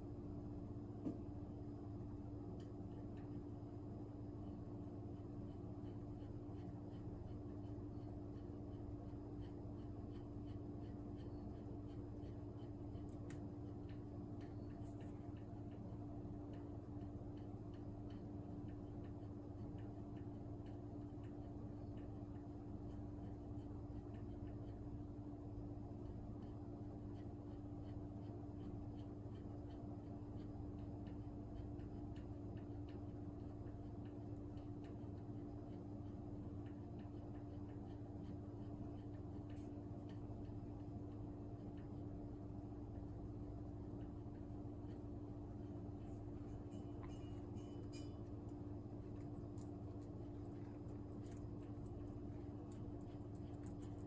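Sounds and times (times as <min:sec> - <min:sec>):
steady low hum: 0:00.0 - 0:54.0
faint regular ticking: 0:00.2 - 0:54.0.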